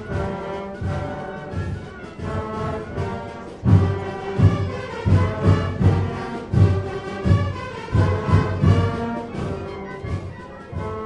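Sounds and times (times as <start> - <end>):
heavy drum beats: 0.0 - 11.0
marching band brass: 0.0 - 11.0.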